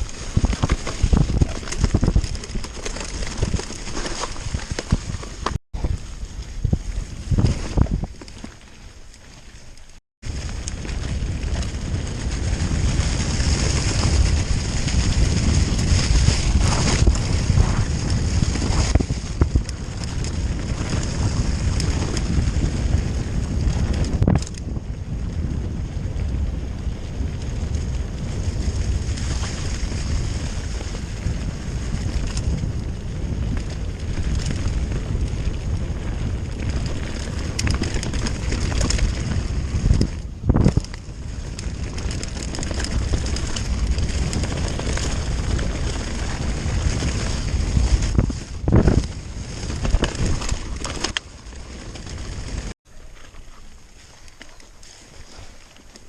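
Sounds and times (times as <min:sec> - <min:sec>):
wind buffeting microphone: 0:00.0 - 0:08.4, 0:10.2 - 0:52.8
mountain bike rolling on trail: 0:00.0 - 0:56.0.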